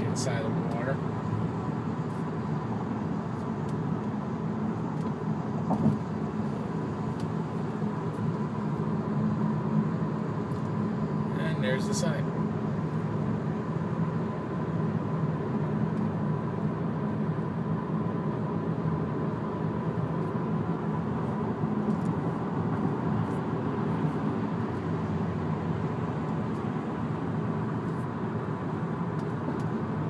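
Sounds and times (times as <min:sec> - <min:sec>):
faint steady whine: 0:00.0 - 0:30.0.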